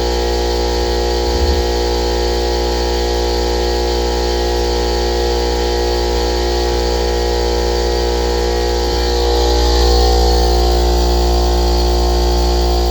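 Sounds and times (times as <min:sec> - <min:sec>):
air compressor running: 0:00.0 - 0:12.9.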